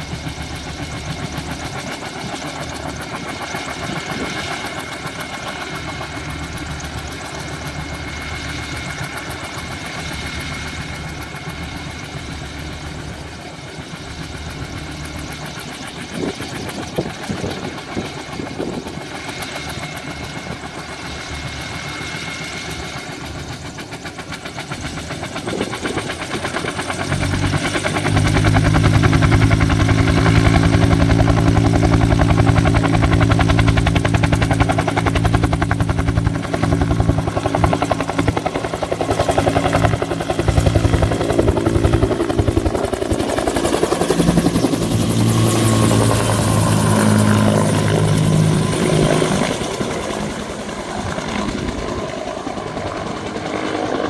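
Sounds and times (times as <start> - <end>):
helicopter rotors beating: 0.0 - 54.0.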